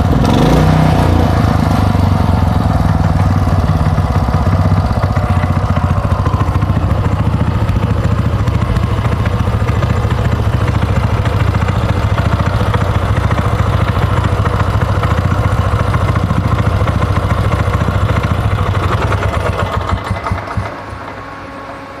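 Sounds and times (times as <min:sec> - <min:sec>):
engine idling and stopping: 0:00.0 - 0:22.0.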